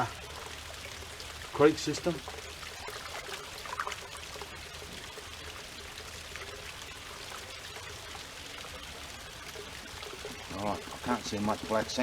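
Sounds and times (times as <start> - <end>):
water pouring into a pool: 0.0 - 12.0.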